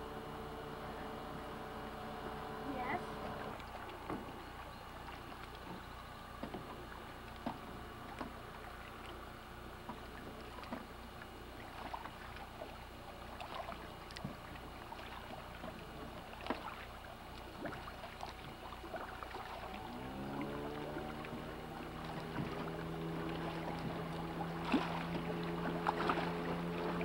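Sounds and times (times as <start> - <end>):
outboard motor starting and running: 0.0 - 27.0
faint knocks from small boat: 1.0 - 27.0.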